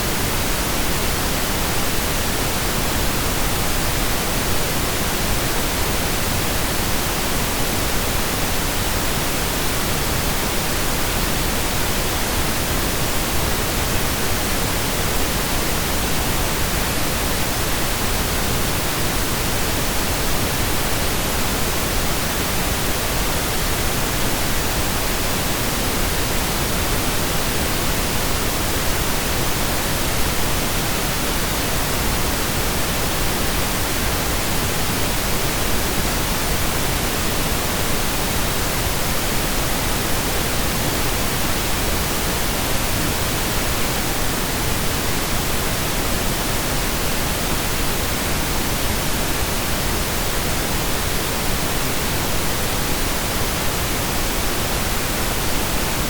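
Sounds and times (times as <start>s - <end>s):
synthesized pink noise: 0.0s - 56.0s.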